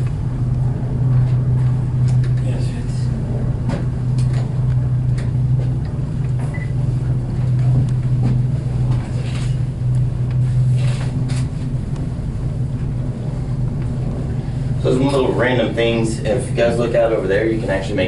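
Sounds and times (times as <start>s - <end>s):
aerial tram cabin humming: 0.0s - 18.0s.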